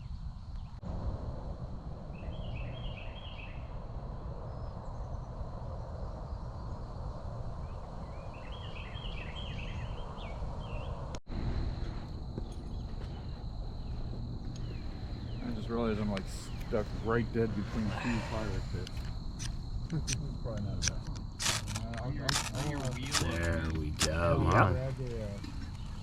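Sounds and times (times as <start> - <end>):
constant low rumble: 0.0 - 26.0
high insect drone: 0.0 - 26.0.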